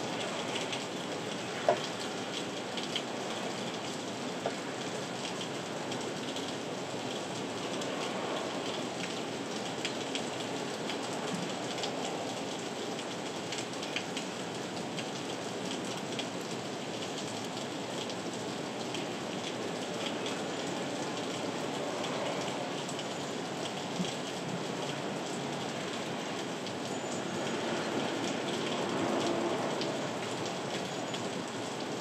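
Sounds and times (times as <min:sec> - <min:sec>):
raindrops ticking close by: 0:00.1 - 0:32.0.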